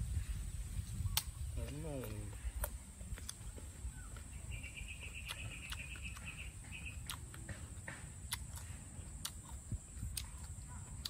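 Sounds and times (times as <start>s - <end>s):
chewing crunchy fruit: 0.9s - 11.0s.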